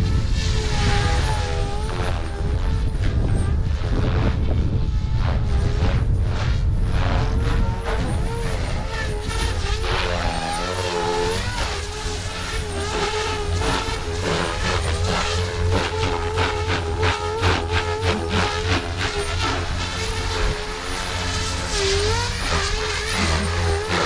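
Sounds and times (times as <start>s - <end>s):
rc helicopter motor and rotor whine: 0.0s - 24.0s
wind rumble on microphone: 0.0s - 24.0s.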